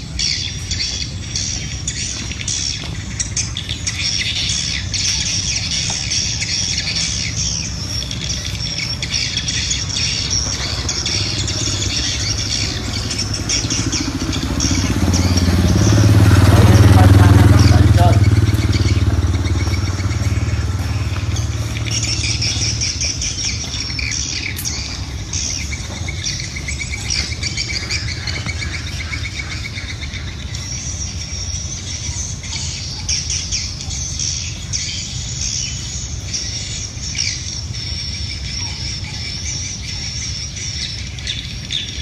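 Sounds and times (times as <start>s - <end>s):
birds chirping: 0.0s - 42.0s
motorbike engine passing by: 0.2s - 41.9s.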